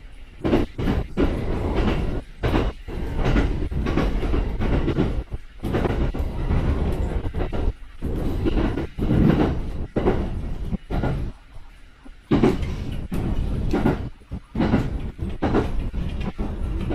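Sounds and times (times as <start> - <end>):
electric train wheel rumble: 0.0 - 16.9
wheels clacking over rail joints: 0.4 - 11.4, 12.3 - 16.9.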